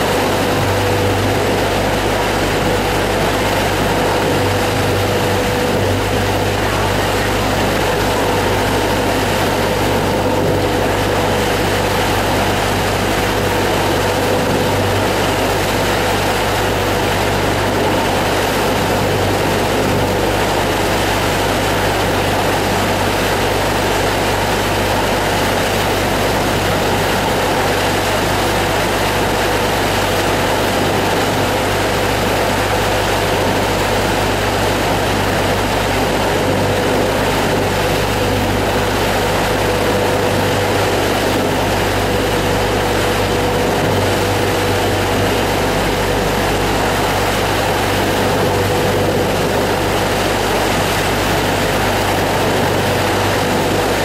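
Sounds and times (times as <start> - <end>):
boat engine droning: 0.0 - 54.0
rush of churning wake: 0.0 - 54.0.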